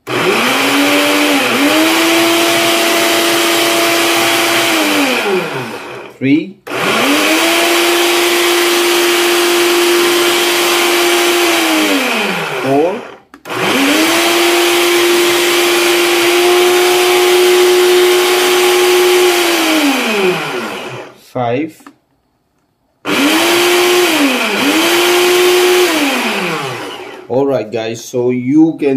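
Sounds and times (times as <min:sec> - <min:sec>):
blender motor running: 0:00.0 - 0:06.1, 0:06.7 - 0:21.2, 0:23.0 - 0:27.3.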